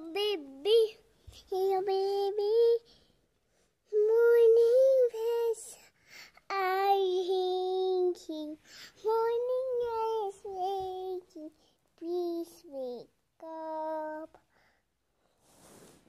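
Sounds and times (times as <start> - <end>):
child singing: 0.0 - 3.0, 3.8 - 14.5.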